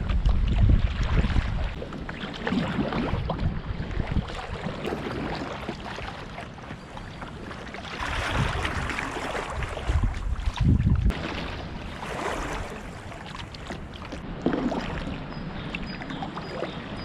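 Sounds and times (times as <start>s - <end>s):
paddle strokes splashing: 0.0s - 17.0s
wind rumbling on microphone: 0.0s - 17.0s
fast-flowing river water: 0.6s - 17.0s.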